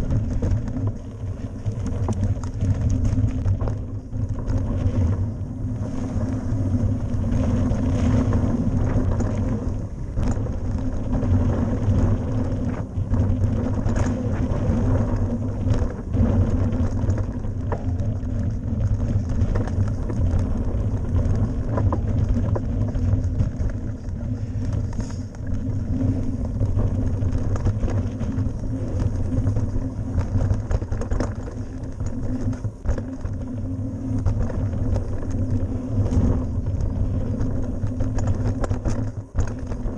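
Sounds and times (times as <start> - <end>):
bike rattling over bumps: 0.0 - 39.9
tyres rumbling on dirt: 0.0 - 39.9
wind noise: 0.0 - 39.9.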